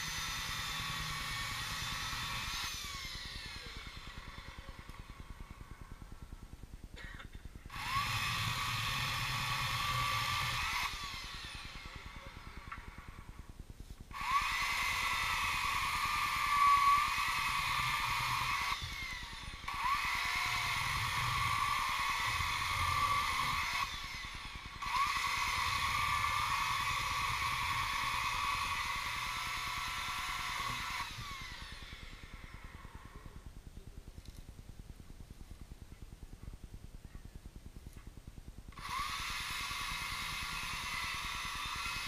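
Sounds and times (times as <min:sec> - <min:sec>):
high-pitched mechanical whine: 0:00.0 - 0:42.0.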